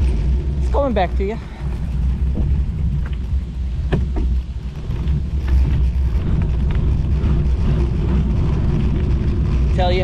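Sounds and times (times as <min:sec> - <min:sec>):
bicycle rumble: 0:00.0 - 0:10.0
wind on microphone: 0:00.0 - 0:10.0.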